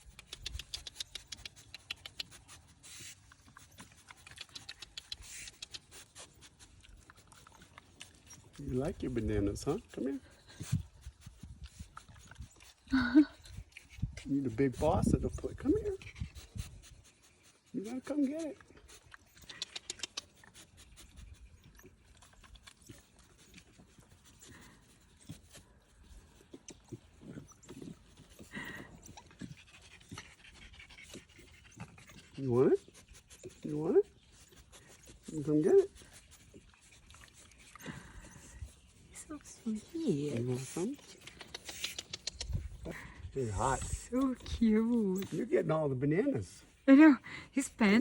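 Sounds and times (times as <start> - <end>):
animals clicking and pattering: 0.0 - 46.8.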